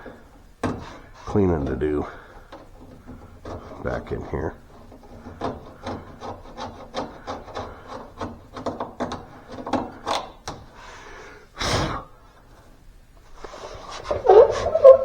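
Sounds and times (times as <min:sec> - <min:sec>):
hand scraping sheet metal: 0:00.0 - 0:10.7, 0:13.4 - 0:15.0.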